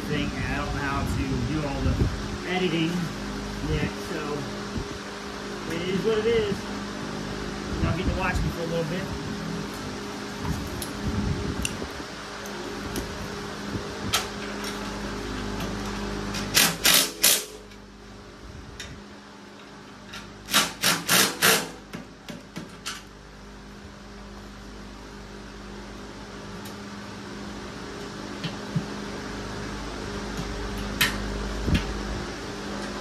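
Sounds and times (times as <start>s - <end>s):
electric fan humming: 0.0s - 33.0s.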